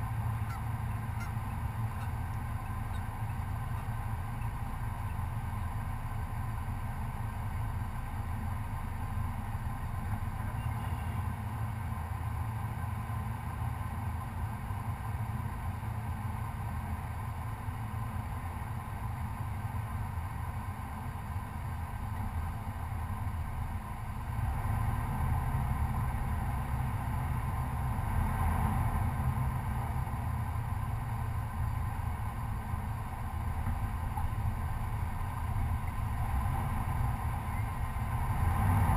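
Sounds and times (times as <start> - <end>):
pickup engine droning: 0.0 - 38.9.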